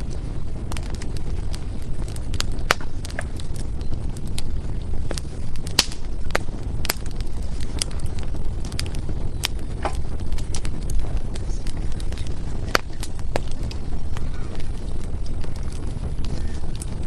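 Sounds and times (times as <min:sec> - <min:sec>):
fire rumbling: 0:00.0 - 0:17.0
firewood crackling and popping: 0:00.0 - 0:17.0.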